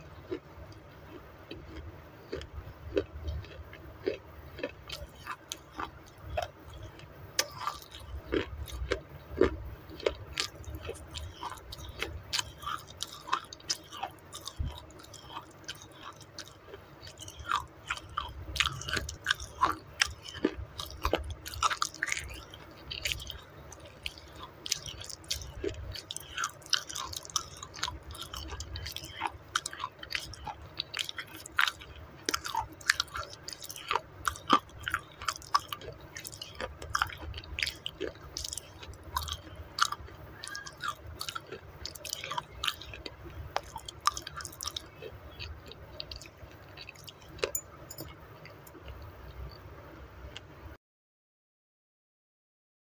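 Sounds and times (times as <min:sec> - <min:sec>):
close chewing with wet crunches: 0:00.0 - 0:49.6.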